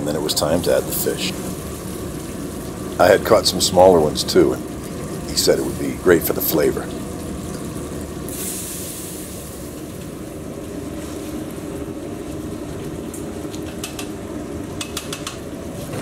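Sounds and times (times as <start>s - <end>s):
low rumbling of gas stove: 0.0s - 16.0s.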